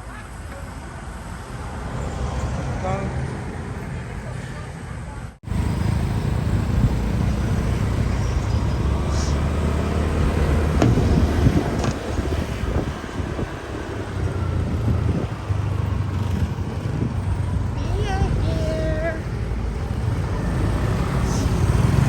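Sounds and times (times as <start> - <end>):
passing traffic: 0.0 - 22.0
scooter road rumble: 0.0 - 22.0.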